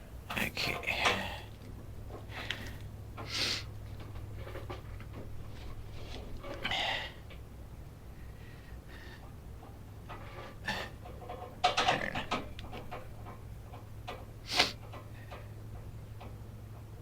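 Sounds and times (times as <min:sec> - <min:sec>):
steady low hum: 0:00.0 - 0:17.0
handling knocks and rattles: 0:00.2 - 0:06.6, 0:09.6 - 0:17.0.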